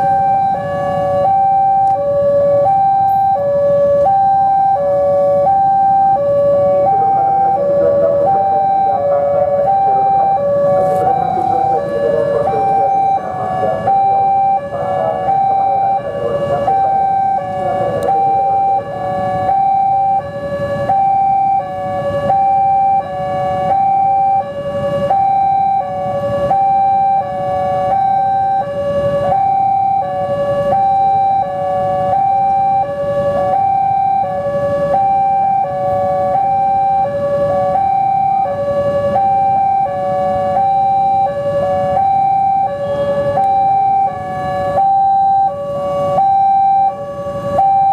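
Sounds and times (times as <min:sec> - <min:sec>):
level crossing alarm two-tone siren: 0:00.0 - 0:47.9.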